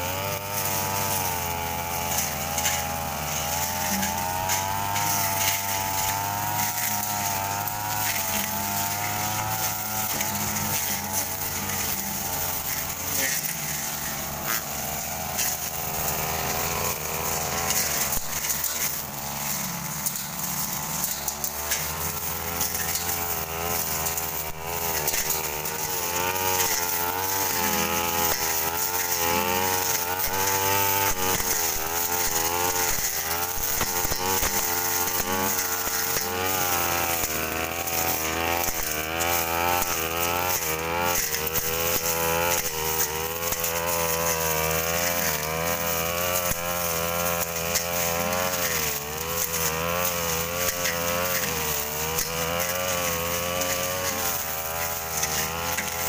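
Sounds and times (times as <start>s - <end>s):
brush cutter engine revving: 0.0s - 56.0s.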